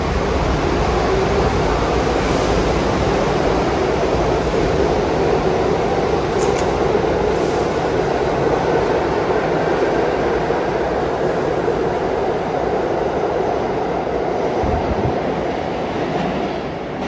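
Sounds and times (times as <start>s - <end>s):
subway train wheels rumbling: 0.0s - 17.0s.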